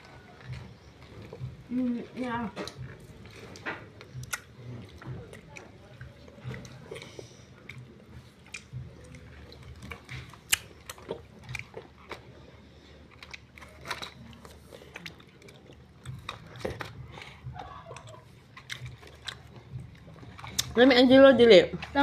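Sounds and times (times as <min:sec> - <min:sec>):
child chewing: 0:00.0 - 0:22.0.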